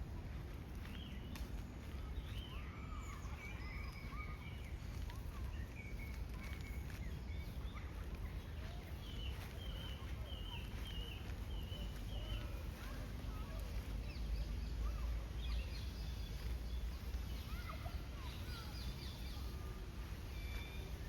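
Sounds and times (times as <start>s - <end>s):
birds chirping and calling: 0.8s - 21.0s.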